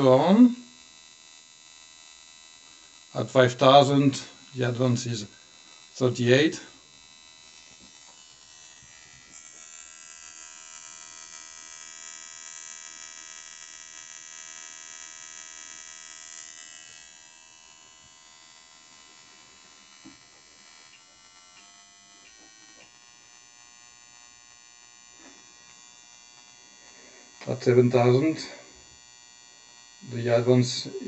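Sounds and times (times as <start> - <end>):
ignition sparks buzzing: 0.0 - 31.0.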